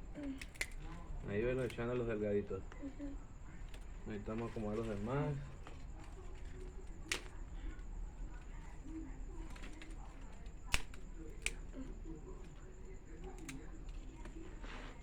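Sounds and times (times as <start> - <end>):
dry twigs snapping: 0.2 - 2.2, 3.6 - 15.0.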